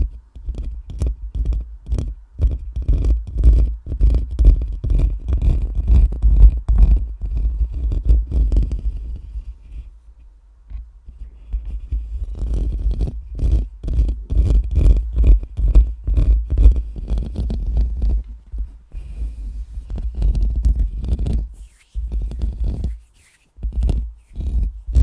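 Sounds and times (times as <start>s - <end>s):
scratching on a microphone: 0.0s - 9.9s, 10.7s - 25.0s.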